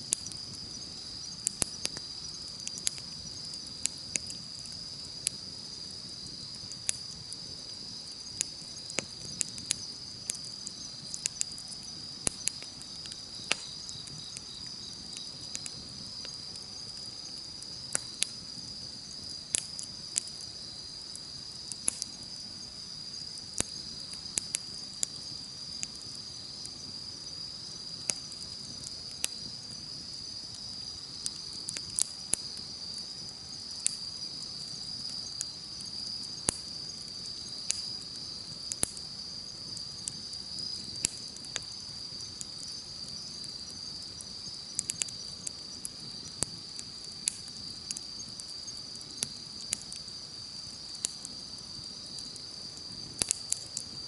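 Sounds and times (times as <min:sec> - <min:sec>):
campfire crackling: 0:00.0 - 0:54.0
insects chorus: 0:00.0 - 0:54.0.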